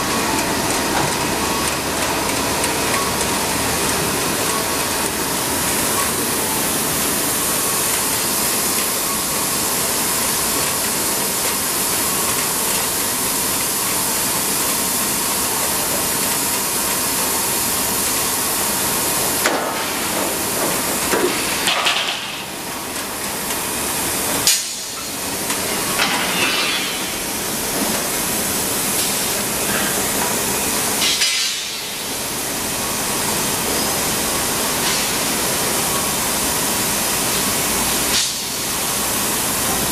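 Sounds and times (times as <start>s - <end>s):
loud machine noise with hiss: 0.0s - 39.9s.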